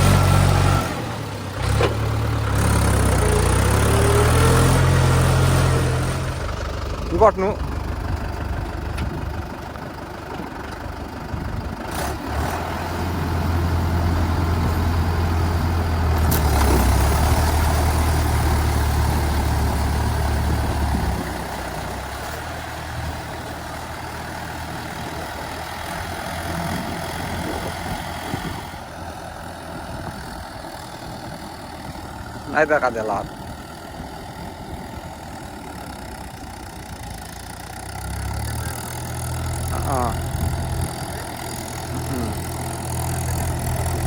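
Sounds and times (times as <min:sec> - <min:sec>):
diesel tractor engine running: 0:00.0 - 0:44.0.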